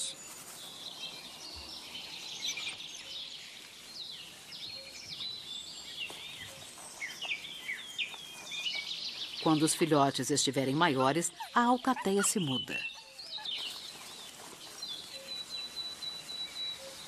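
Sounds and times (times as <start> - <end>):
small birds chirping: 0.0 - 17.0
soft steady hiss: 0.0 - 17.0.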